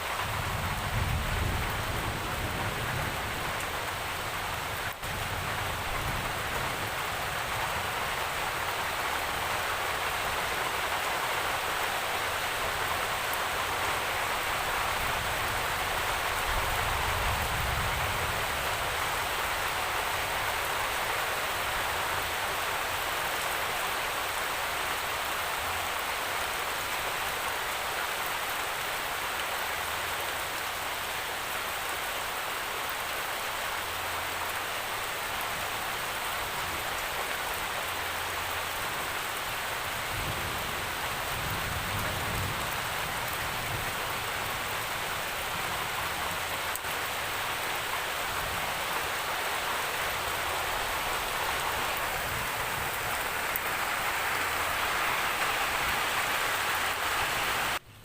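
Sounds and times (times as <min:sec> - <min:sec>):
heavy rainfall: 0:00.0 - 0:58.0.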